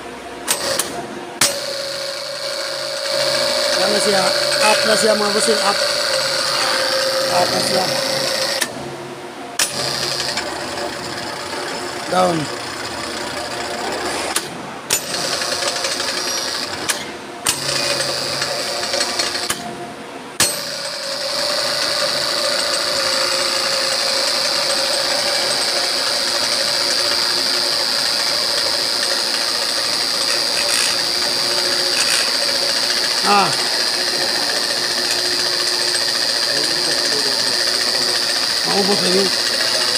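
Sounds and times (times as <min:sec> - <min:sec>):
electric hoist motor whine: 0:00.0 - 0:39.9.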